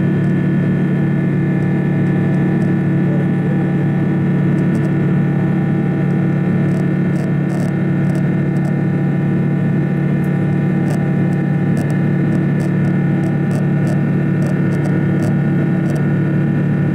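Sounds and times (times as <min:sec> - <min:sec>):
jet engine drone in cabin: 0:00.0 - 0:16.9.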